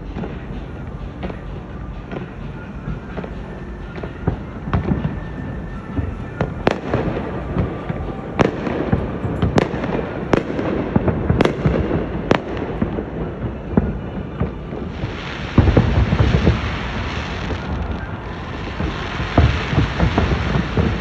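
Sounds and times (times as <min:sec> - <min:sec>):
fireworks bangs and crackles: 0:00.0 - 0:21.0
rumbling hiss: 0:00.0 - 0:21.0.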